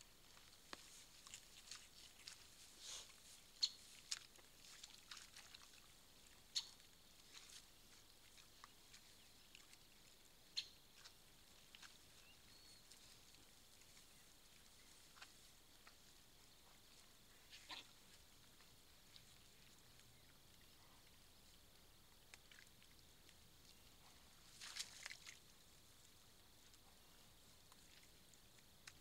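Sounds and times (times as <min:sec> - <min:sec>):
animals rustling through wet grass: 0:00.0 - 0:29.0.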